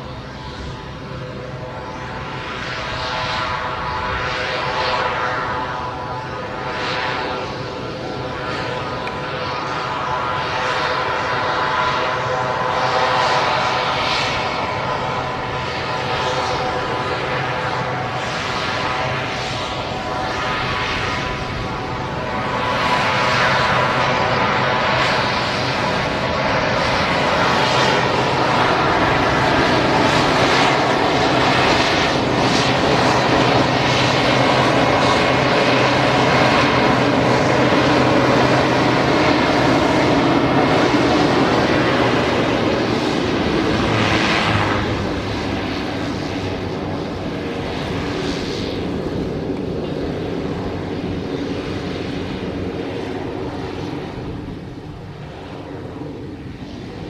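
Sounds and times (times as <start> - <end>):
airplane engine running: 0.0 - 57.0.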